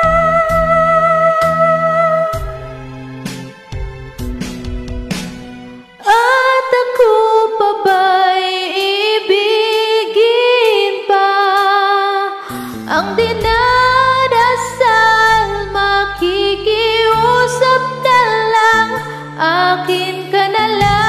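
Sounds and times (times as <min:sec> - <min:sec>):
karaoke backing track: 0:00.0 - 0:21.0.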